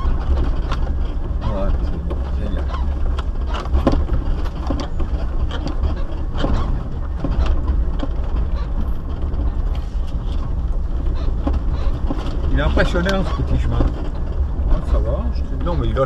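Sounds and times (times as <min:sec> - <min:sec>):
knocks and rattles from bumps: 0:00.0 - 0:16.0
vehicle engine rumble: 0:00.0 - 0:16.0.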